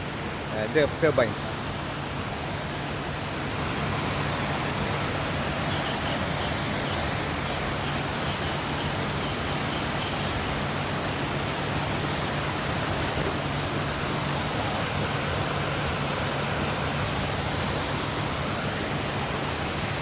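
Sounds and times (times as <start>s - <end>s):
fast-flowing stream rushing: 0.0s - 20.0s.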